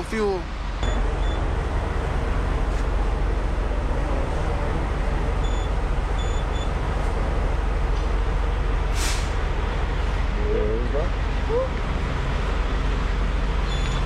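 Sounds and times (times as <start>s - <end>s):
road noise inside cab: 0.0s - 14.0s
truck diesel engine rumbling: 0.0s - 14.0s.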